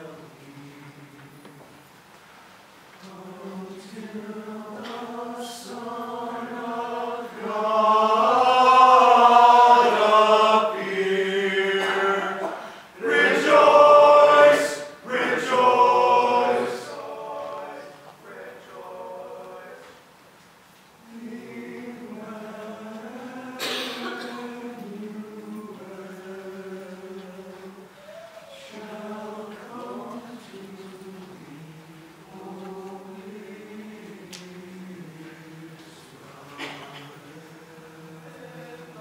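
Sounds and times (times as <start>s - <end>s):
choir singing held notes: 0.0s - 1.8s, 3.0s - 20.1s, 21.0s - 39.0s.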